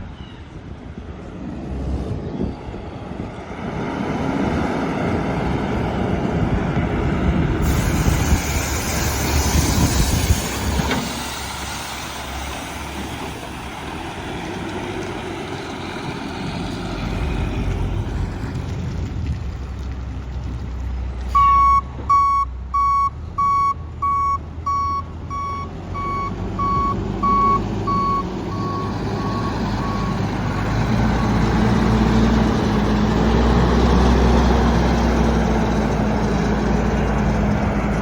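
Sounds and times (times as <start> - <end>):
garbage truck diesel engine: 3.1 - 38.0.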